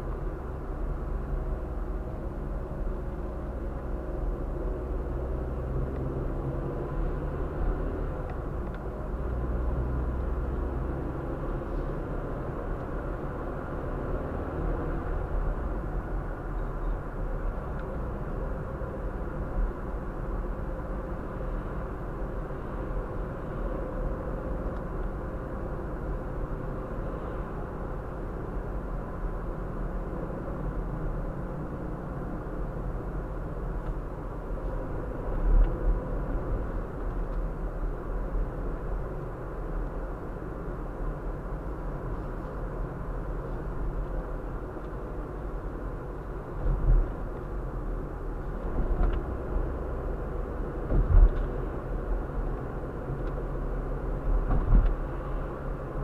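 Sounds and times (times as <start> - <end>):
car interior driving rumble: 0.0 - 56.0.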